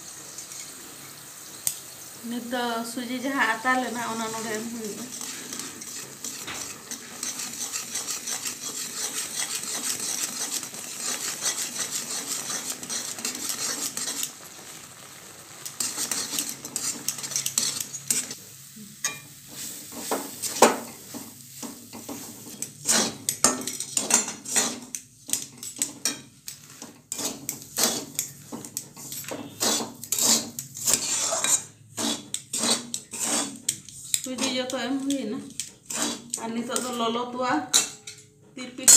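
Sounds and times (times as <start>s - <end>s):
oil sizzling: 0.0s - 38.2s
spatula scraping metal wok: 0.2s - 38.2s.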